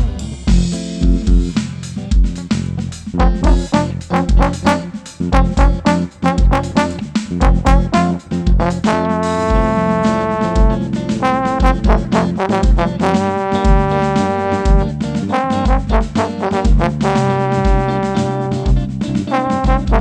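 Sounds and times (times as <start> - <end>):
bass: 0.0 - 20.0
drum beat: 0.0 - 20.0
trombone playing held notes: 3.2 - 20.0.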